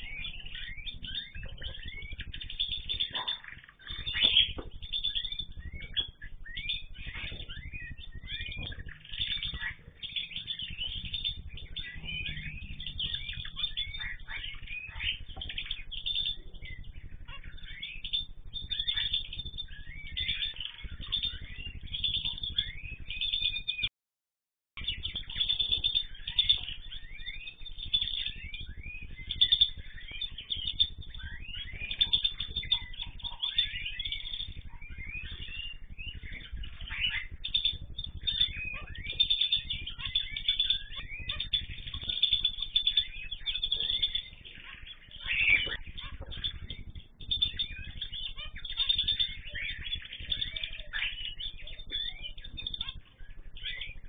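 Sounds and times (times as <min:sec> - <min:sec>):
birds chirping and calling: 0:00.0 - 0:23.9, 0:24.8 - 0:54.0.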